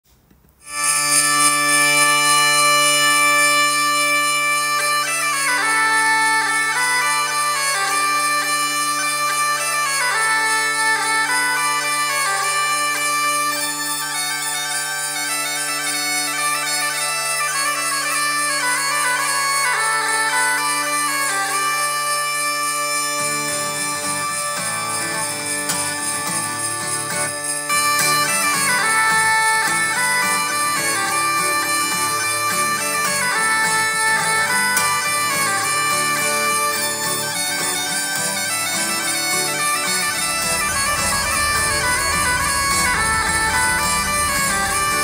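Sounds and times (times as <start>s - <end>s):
bagpipe chanter melody: 0.6s - 45.0s
bagpipe drones: 0.6s - 45.0s.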